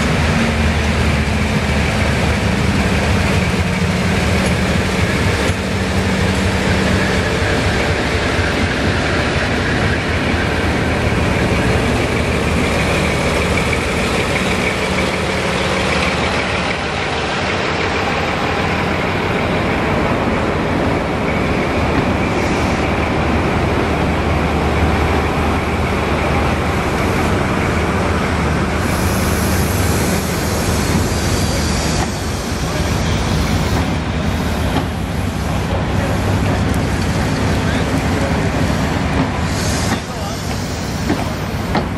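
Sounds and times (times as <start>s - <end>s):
locomotive engine humming: 0.0s - 41.9s
train rolling on rails: 0.0s - 41.9s.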